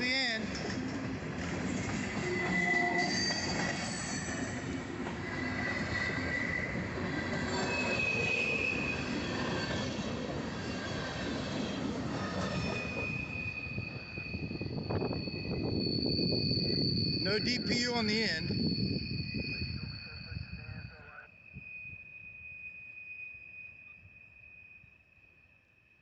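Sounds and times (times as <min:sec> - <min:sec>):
train wheels rumbling on rails: 0:00.0 - 0:21.0
wheels squealing: 0:00.4 - 0:24.8.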